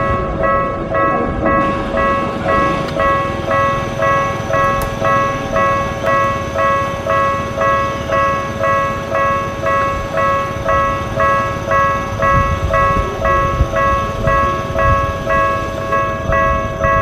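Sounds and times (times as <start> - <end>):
level crossing electronic bell: 0.0 - 17.0.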